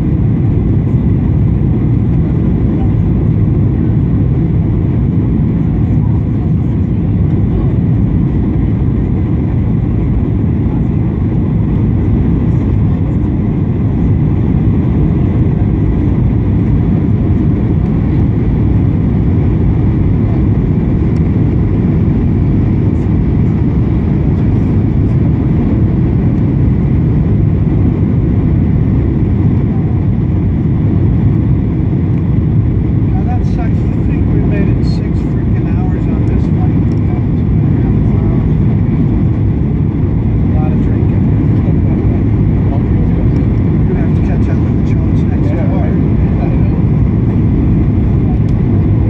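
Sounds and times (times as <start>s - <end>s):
airplane cabin engine rumble: 0.0s - 49.0s.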